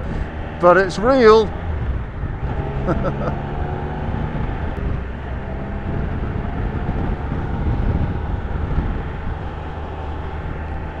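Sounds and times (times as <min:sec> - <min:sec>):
motorcycle engine cruising: 0:00.0 - 0:11.0
road noise: 0:00.0 - 0:11.0
wind noise: 0:00.0 - 0:11.0.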